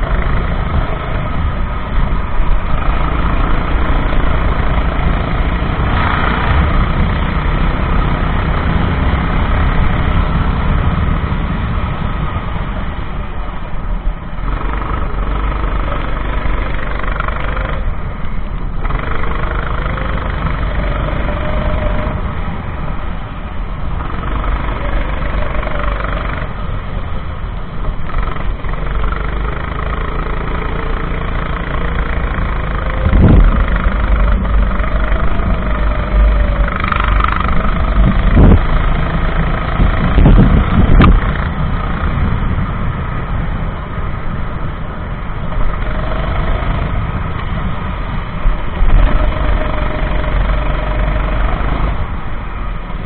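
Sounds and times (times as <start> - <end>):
kart engine revving: 0.0 - 13.3, 14.0 - 53.0.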